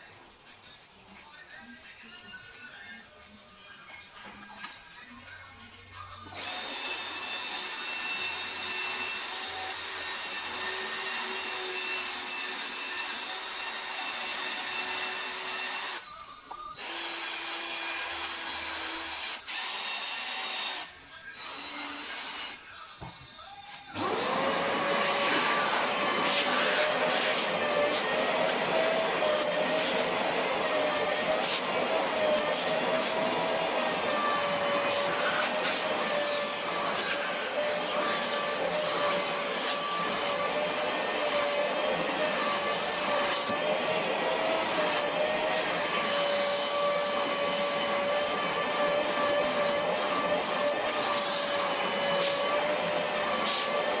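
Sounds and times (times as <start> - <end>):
vacuum cleaner running: 6.3 - 16.0, 16.8 - 22.5, 23.9 - 54.0.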